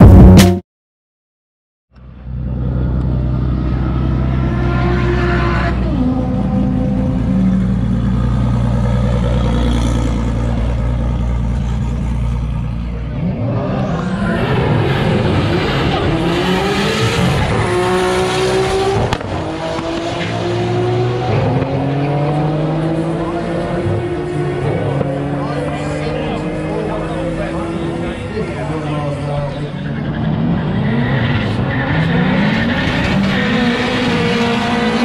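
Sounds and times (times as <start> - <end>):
car engine revving: 2.3 - 35.0.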